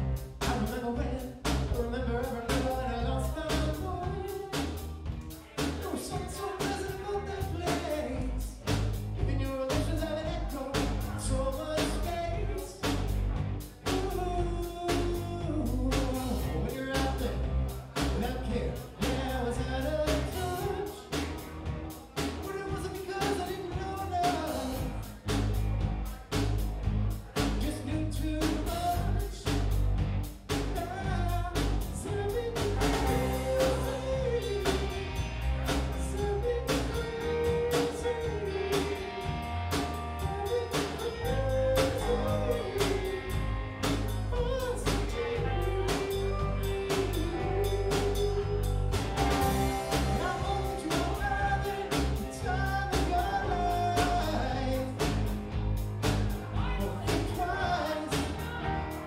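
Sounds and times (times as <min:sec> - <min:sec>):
person singing lead vocal: 0:00.0 - 0:21.4, 0:22.1 - 0:25.7, 0:27.4 - 0:29.8, 0:30.6 - 0:59.0
bass line: 0:00.0 - 0:59.0
drum kit beat: 0:00.0 - 0:59.0.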